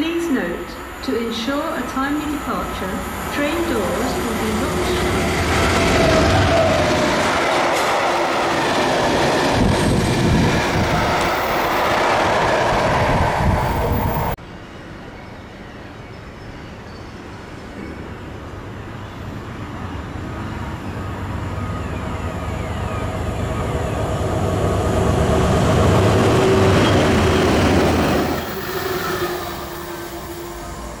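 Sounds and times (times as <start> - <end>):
rail noise: 0.0 - 31.0
diesel locomotive engine drone: 0.2 - 16.1, 17.2 - 31.0.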